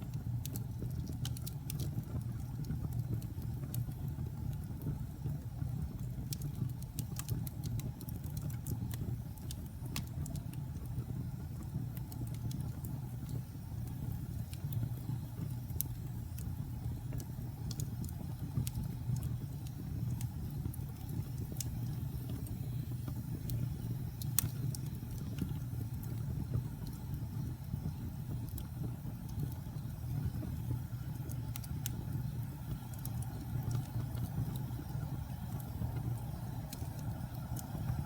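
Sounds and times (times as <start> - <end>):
wood fire burning: 0.0 - 38.0.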